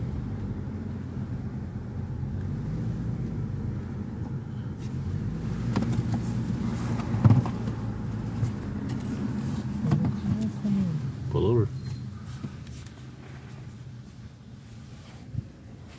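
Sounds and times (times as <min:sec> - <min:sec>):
car engine and road hum: 0:00.0 - 0:15.9.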